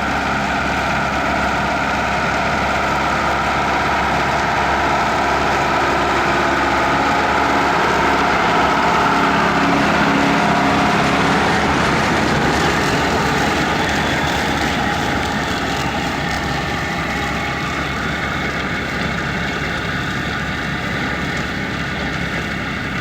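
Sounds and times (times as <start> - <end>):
machinery rattle and hum: 0.0 - 23.0
tractor diesel engine running: 0.0 - 23.0.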